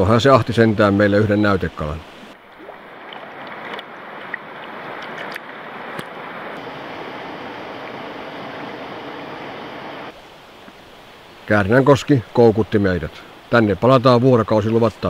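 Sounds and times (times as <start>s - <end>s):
water rushing through rapids: 0.0s - 15.0s.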